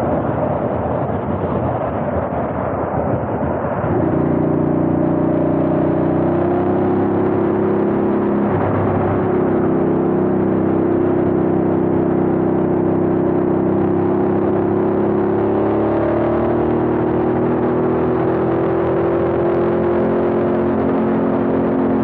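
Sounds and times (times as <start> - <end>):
road noise: 0.0 - 22.0
wind noise: 0.0 - 22.0
motorcycle engine cruising: 3.8 - 22.0.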